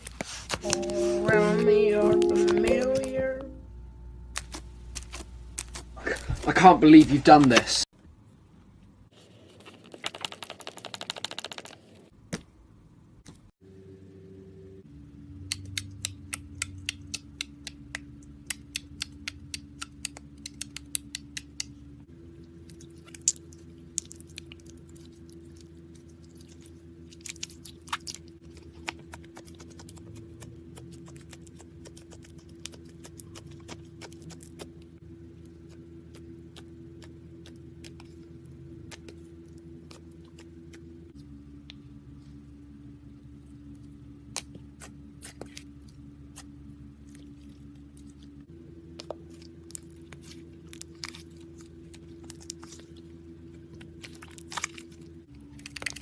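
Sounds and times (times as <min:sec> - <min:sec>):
steady low hum: 0:00.0 - 0:09.2, 0:12.1 - 0:56.0.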